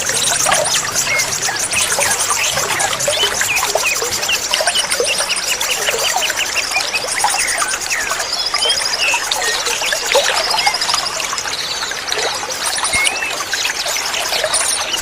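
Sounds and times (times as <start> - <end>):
songbirds chirping and trilling: 0.0 - 15.0
trickle of running water: 0.0 - 15.0.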